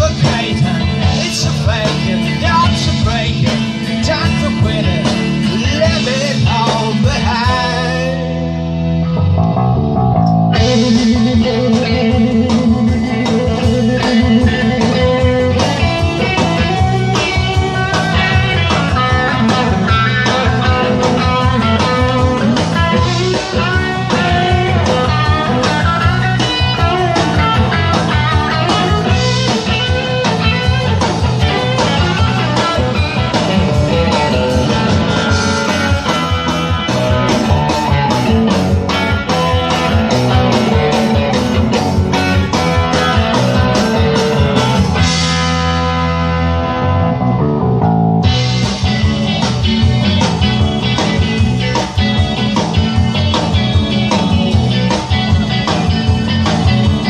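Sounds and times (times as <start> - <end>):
drums and cymbals: 0.0 - 9.0, 10.6 - 46.4, 48.2 - 57.0
bass guitar: 0.0 - 57.0
guitar solo: 7.8 - 57.0.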